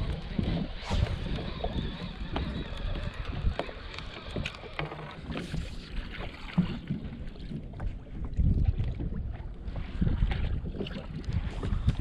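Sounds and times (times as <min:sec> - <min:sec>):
waves lapping against boat hull: 0:00.0 - 0:12.0
wind buffeting microphone: 0:00.0 - 0:12.0.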